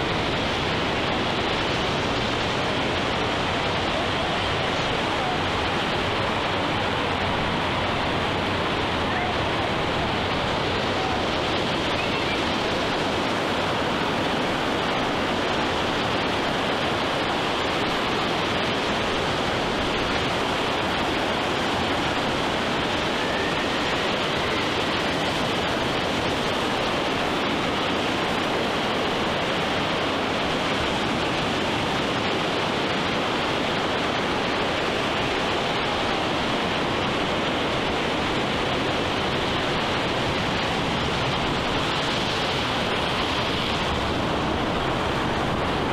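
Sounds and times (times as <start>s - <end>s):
ocean surf rushing: 0.0s - 45.9s.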